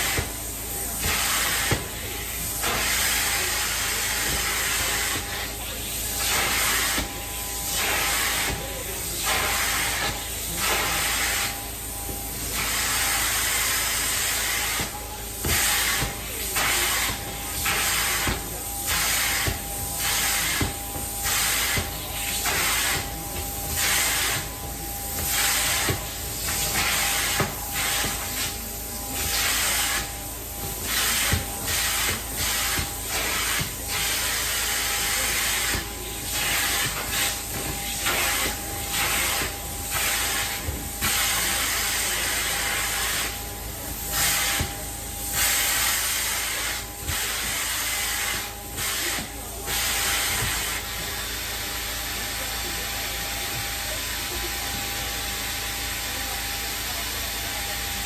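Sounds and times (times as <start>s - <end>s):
carpet cleaning wand hissing: 0.0s - 56.4s.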